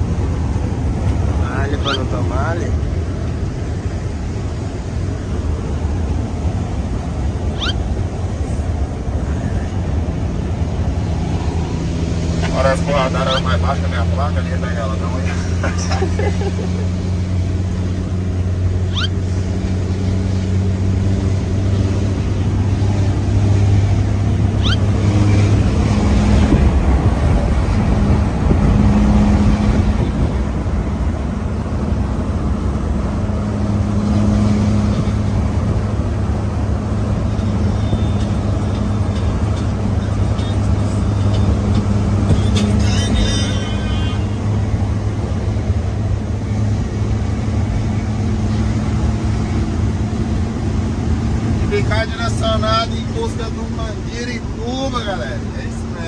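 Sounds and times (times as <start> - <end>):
truck diesel engine drone: 0.0 - 56.0.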